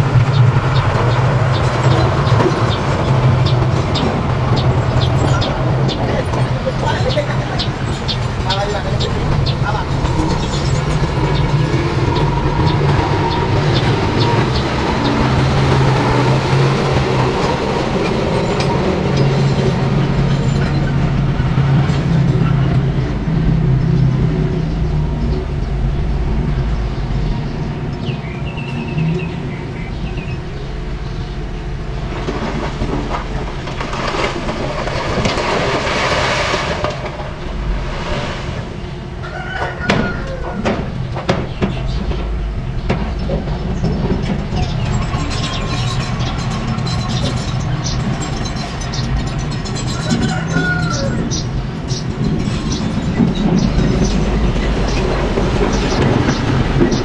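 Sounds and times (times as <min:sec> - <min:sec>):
diesel truck engines droning: 0:00.0 - 0:57.0.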